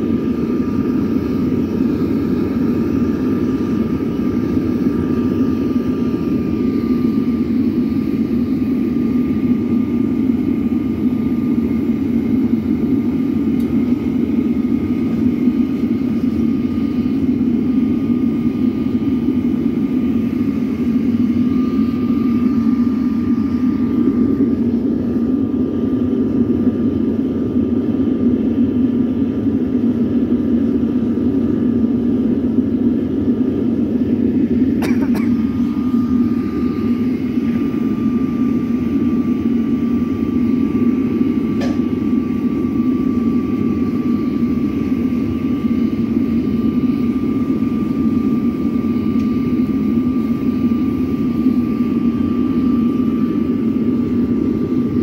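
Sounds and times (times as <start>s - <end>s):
faint high whine: 0.0s - 55.0s
furnace roaring: 0.0s - 55.0s.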